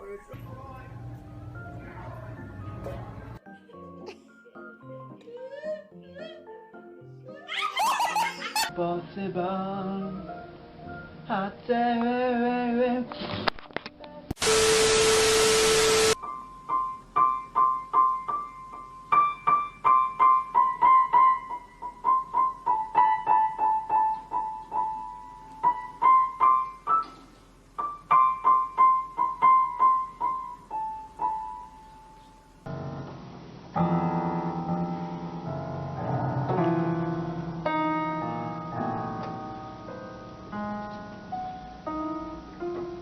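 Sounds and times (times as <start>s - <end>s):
piano playing chords: 0.0s - 7.5s, 14.4s - 43.0s.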